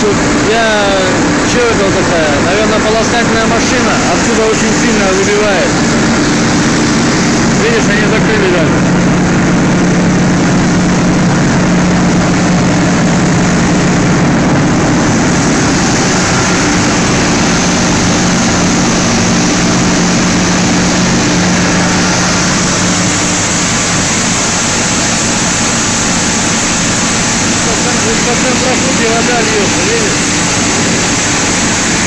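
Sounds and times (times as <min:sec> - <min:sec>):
machinery hum: 0:00.0 - 0:32.0.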